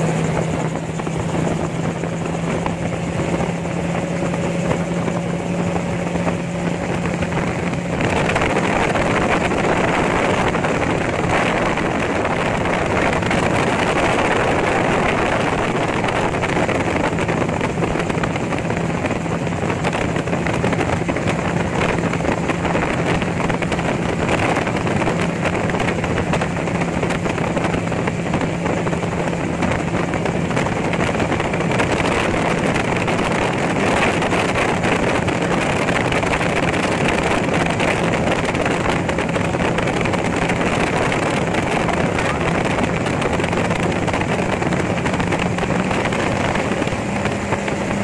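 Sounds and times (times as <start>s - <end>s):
gyrocopter engine and propeller drone: 0.0s - 48.0s
wind rushing over microphone: 0.0s - 48.0s.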